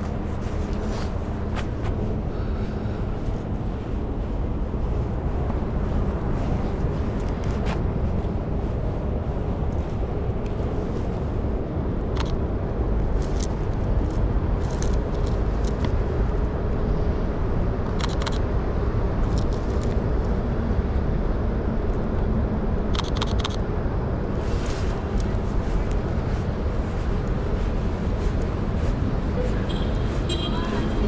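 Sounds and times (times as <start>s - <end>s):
city traffic rumble: 0.0s - 31.0s.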